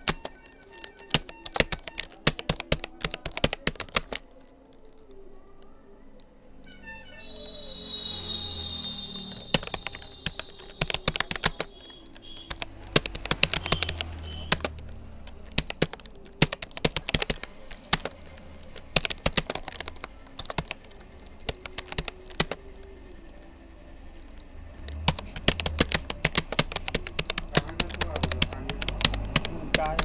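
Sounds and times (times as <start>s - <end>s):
computer keyboard typing: 0.0s - 30.0s.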